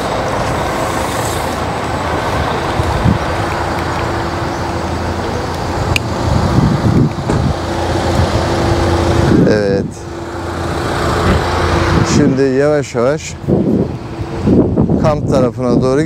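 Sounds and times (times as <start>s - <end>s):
vehicle road noise rumbling: 0.0s - 16.0s.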